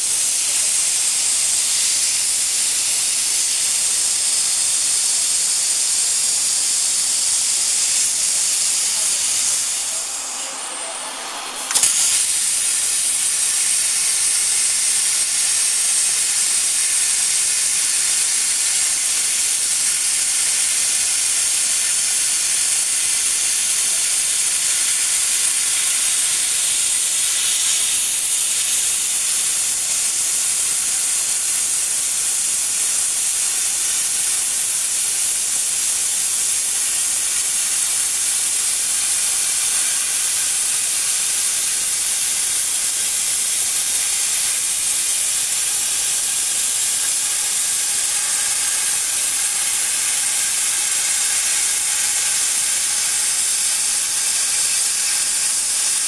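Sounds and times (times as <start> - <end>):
plasma cutter hiss: 0.0 - 56.0.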